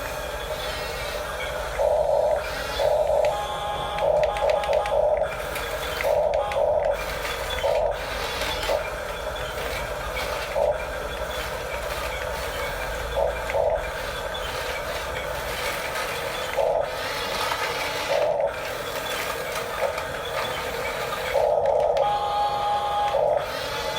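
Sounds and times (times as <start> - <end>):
toy bulldozer motor grinding whirr: 0.0 - 23.9.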